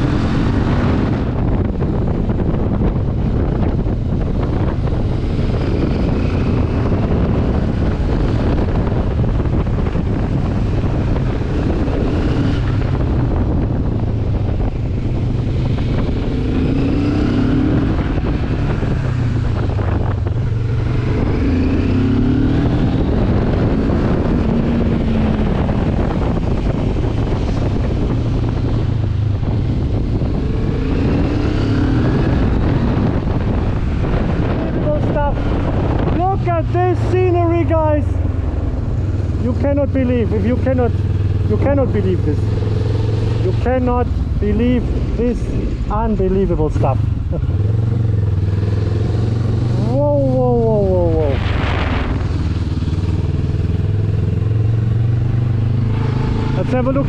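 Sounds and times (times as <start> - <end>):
motorcycle engine rising and falling: 0.0 - 57.0.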